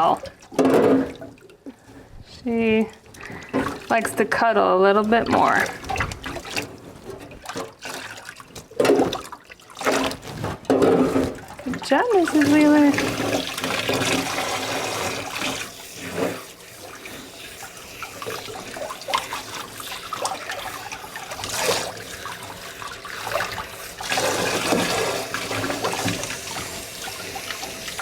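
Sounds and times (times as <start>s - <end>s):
tap water splashing and trickling: 0.0s - 28.0s.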